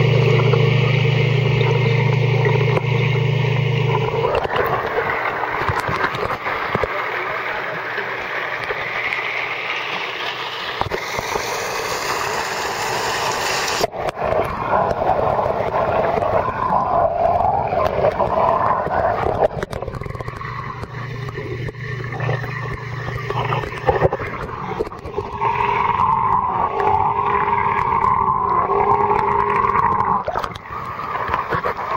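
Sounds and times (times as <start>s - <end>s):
muffled underwater rumble: 0.0s - 11.5s, 13.8s - 31.9s
pond water splashing: 0.0s - 31.9s.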